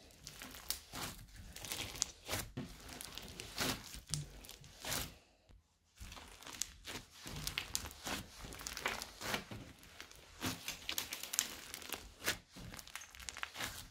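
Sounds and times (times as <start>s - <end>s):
slime crunchy crackles and pops: 0.1s - 5.1s, 6.0s - 13.9s.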